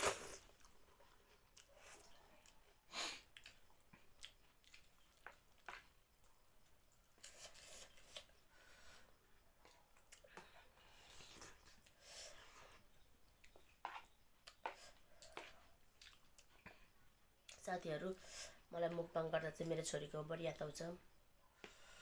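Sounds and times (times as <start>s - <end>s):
soft chewing and mouth sounds: 0.0s - 20.0s, 21.0s - 22.0s.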